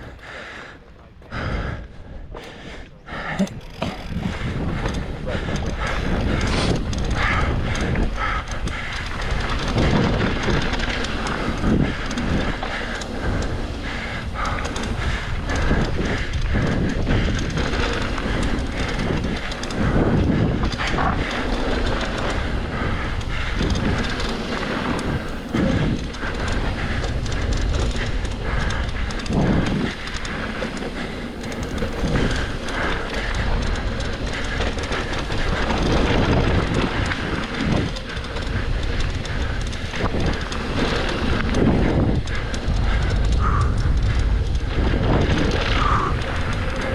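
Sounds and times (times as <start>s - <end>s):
mountain bike rattling: 0.0s - 46.9s.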